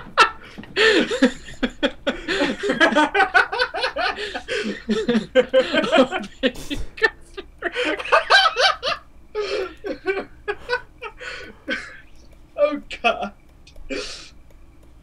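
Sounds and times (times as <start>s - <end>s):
young men laughing: 0.0s - 13.4s.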